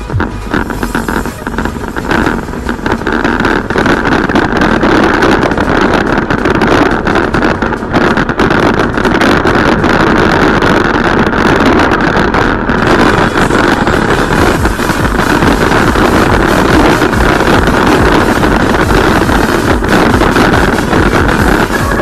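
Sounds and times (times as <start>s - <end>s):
wind rush on microphone: 0.0s - 22.0s.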